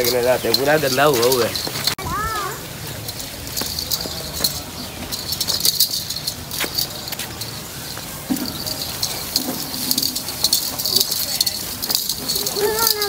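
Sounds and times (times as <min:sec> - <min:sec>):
ankle bells jingling: 0:00.0 - 0:13.0.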